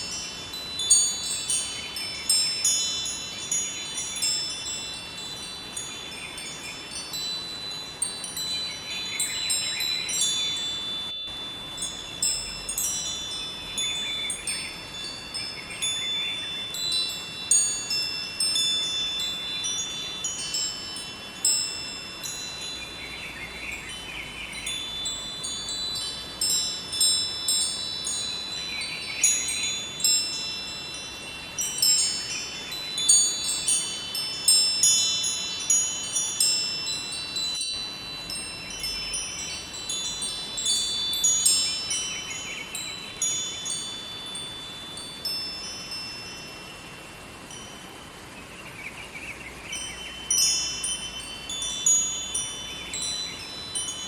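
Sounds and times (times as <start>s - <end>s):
wind chimes tinkling: 0.0s - 54.0s.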